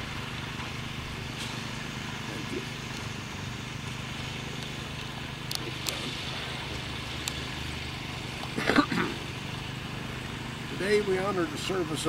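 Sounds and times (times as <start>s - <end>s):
low outdoor hum: 0.0s - 12.0s.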